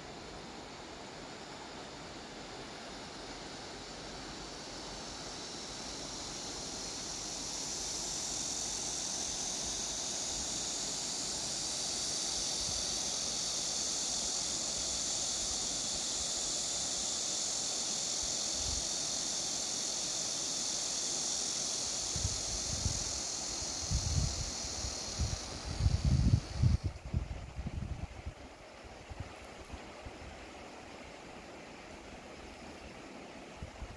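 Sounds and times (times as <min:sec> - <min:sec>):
river flowing over stones: 0:00.0 - 0:22.4, 0:28.3 - 0:33.9
cicadas buzzing: 0:00.0 - 0:33.9.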